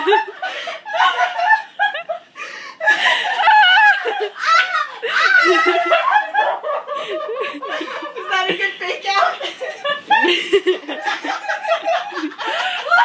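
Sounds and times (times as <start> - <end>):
women laughing and squealing: 0.0 - 13.0.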